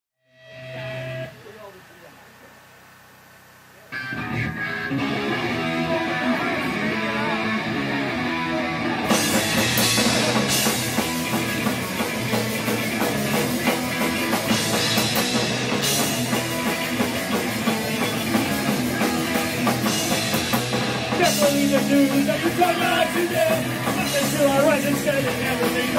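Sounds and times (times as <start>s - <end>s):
distorted electric guitars: 0.2s - 25.9s
drum kit: 4.0s - 25.9s.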